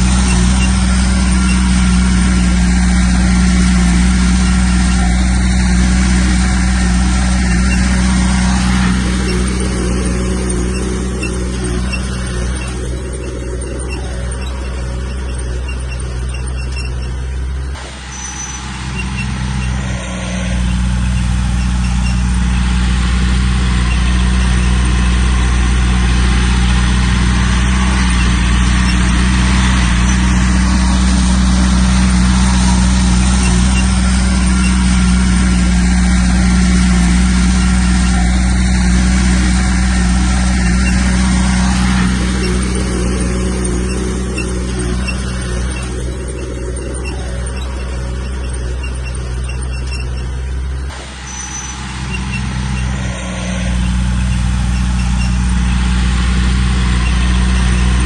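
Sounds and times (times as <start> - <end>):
heavy diesel machine engine running: 0.0 - 58.0.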